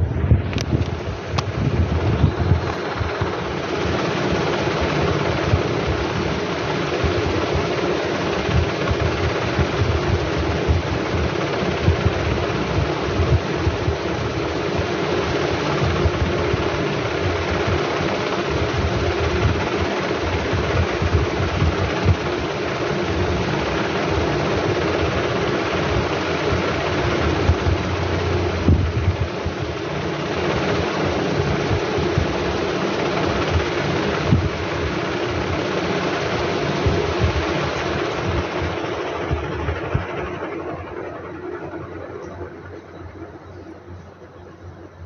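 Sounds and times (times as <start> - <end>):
mechanical hum and rumble: 0.0 - 45.0.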